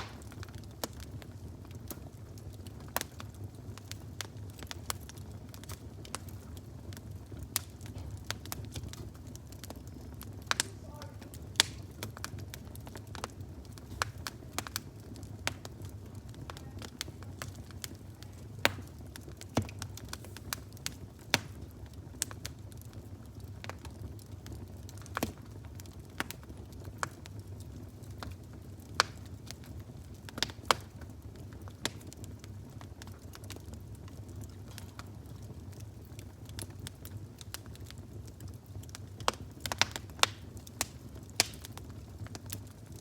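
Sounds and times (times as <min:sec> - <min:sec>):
fire crackling and popping: 0:00.0 - 0:43.0
low fire rumble: 0:00.0 - 0:43.0.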